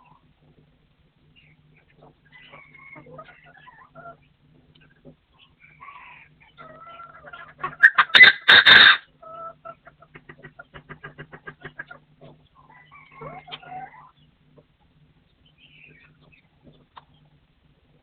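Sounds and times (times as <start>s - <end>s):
bird clucking: 1.3s - 14.7s, 15.3s - 17.4s.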